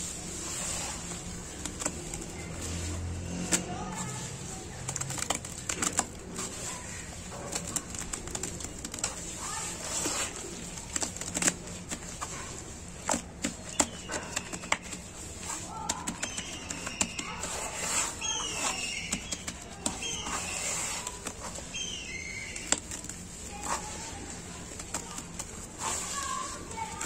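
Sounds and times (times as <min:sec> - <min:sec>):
wet cement squelching in bucket: 0:00.0 - 0:27.0.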